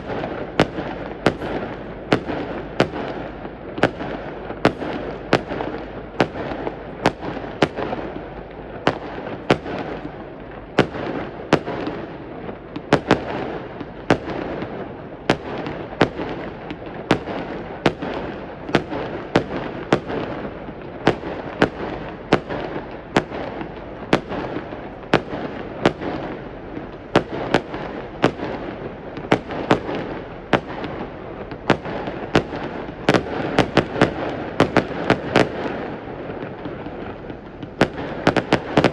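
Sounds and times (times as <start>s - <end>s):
fireworks bangs: 0.0s - 38.9s
fireworks crackle and rumble: 0.0s - 38.9s.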